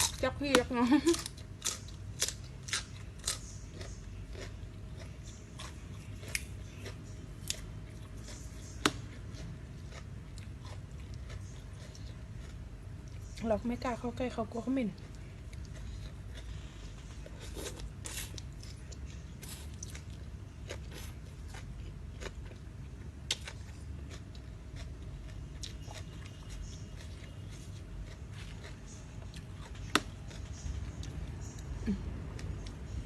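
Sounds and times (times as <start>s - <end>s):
person chewing crunchy food: 0.0s - 13.4s, 14.6s - 33.0s.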